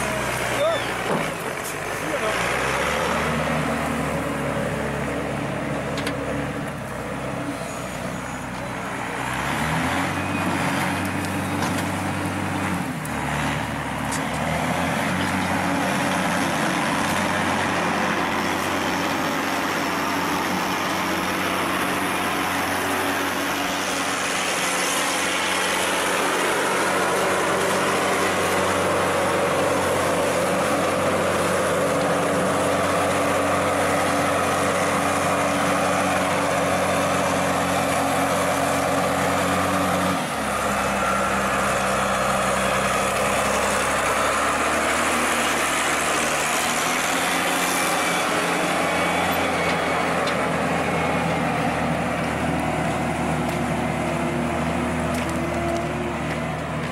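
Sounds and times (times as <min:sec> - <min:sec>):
wheel loader diesel engine: 0:00.0 - 0:56.9.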